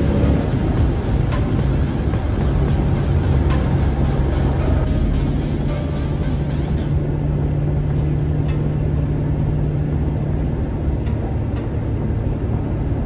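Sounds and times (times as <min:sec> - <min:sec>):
car engine hum: 0:00.0 - 0:13.0
road rumble: 0:00.0 - 0:13.0.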